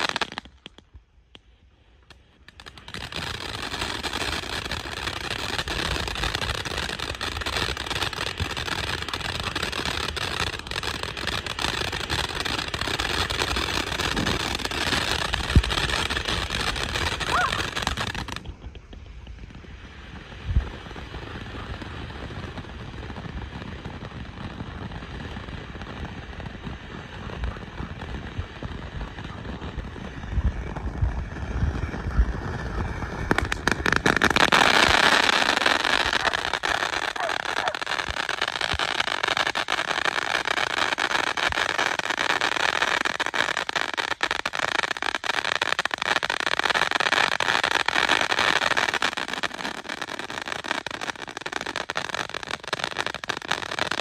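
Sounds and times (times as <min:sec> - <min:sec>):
firework fountains hissing and crackling: 0:00.0 - 0:54.0.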